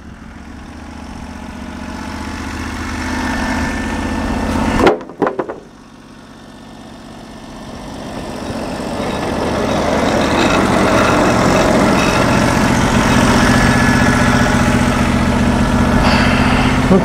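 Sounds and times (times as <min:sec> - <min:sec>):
gas engine running: 0:00.0 - 0:17.0.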